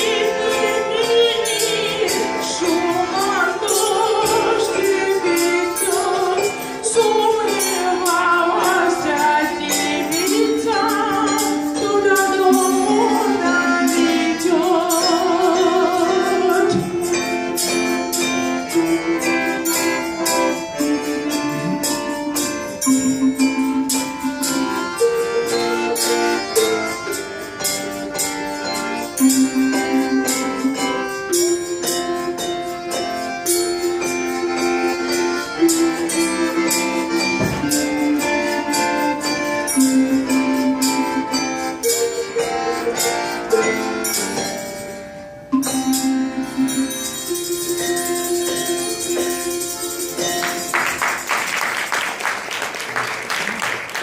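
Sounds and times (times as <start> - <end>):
folk ensemble melody: 0.0 - 54.0
percussion with jingles: 0.0 - 54.0.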